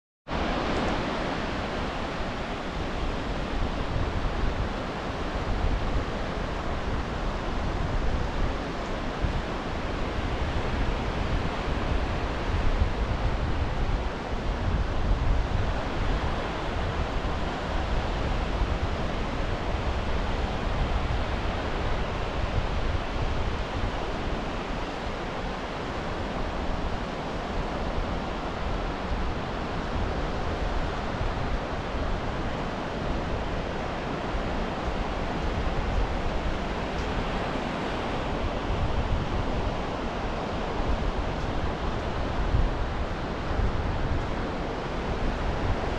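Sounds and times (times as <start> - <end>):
waves washing on sandy shore: 0.3 - 45.9
wind rumble on microphone: 0.3 - 45.9.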